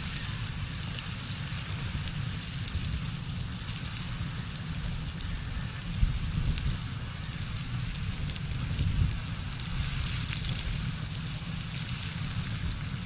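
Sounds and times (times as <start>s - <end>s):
geyser water rushing and splashing: 0.0s - 13.0s.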